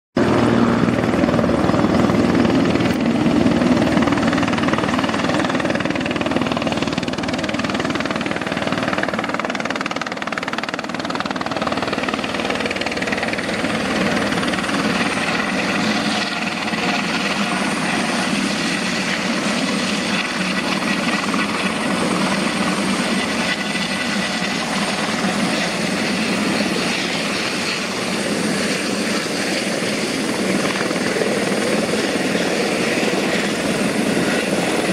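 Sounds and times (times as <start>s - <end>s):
helicopter hovering: 0.2s - 34.9s.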